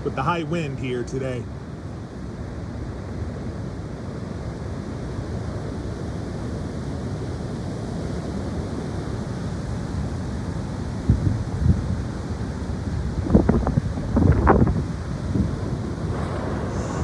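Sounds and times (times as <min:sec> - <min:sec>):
high wind on microphone: 0:00.8 - 0:17.0.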